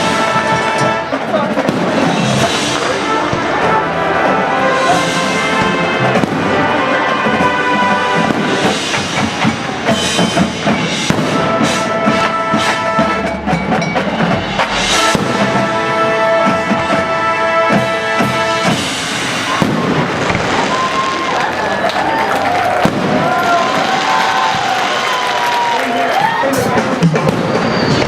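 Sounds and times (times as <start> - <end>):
drum strikes: 0.0 - 22.1, 22.7 - 25.2
held brass chords: 0.0 - 25.8.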